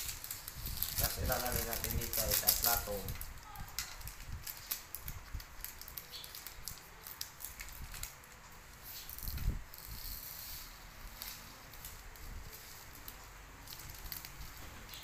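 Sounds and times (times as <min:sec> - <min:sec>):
plastic packet rustling: 0:00.0 - 0:15.0
tiny beads pattering into tray: 0:00.0 - 0:15.0.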